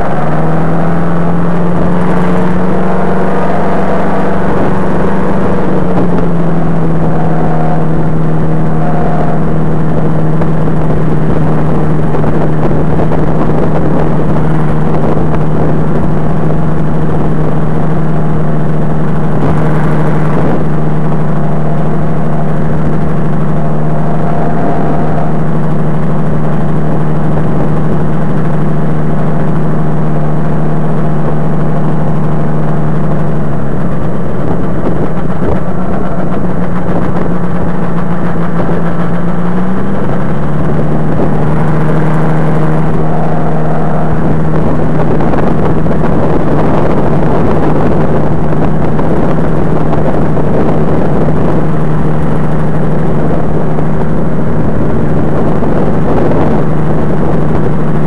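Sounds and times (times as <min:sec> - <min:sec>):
two-stroke engine running: 0:00.0 - 0:58.0.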